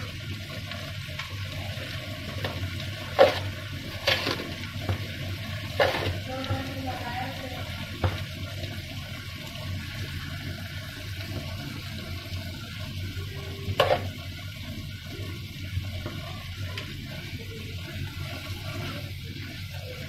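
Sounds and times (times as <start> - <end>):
curry bubbling and sizzling: 0.0 - 20.0
spatula stirring a pan: 0.0 - 20.0.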